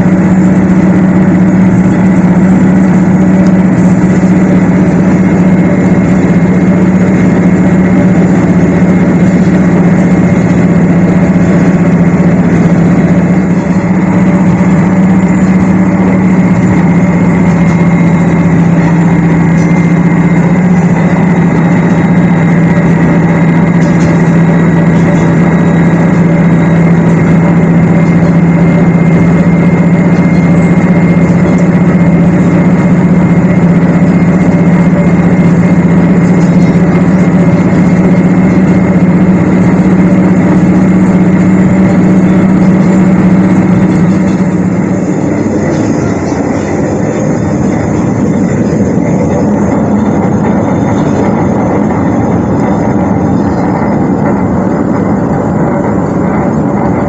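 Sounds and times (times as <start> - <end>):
diesel railcar engine drone: 0.0 - 57.0.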